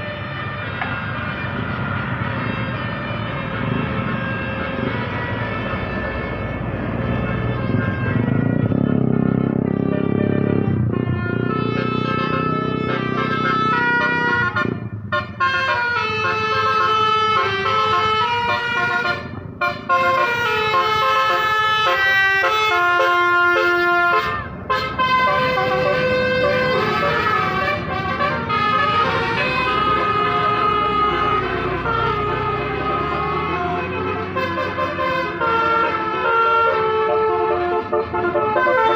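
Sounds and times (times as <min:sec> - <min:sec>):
musical air horns playing tunes: 0:00.0 - 0:38.9.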